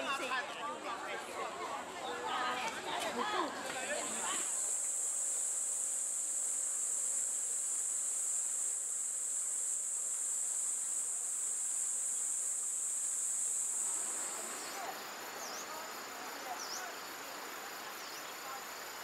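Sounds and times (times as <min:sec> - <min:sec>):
insects buzzing: 0:03.3 - 0:19.0
soft hiss: 0:03.6 - 0:19.0.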